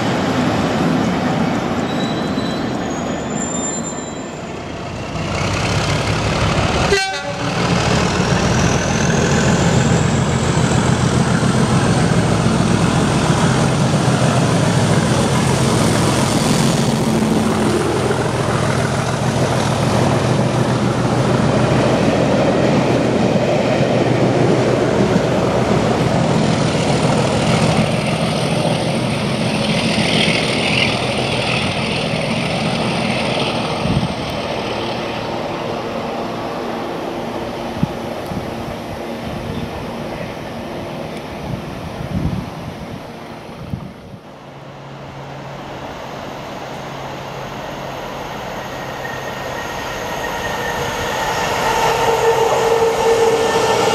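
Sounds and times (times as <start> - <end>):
diesel locomotive engine drone: 0.0 - 53.9.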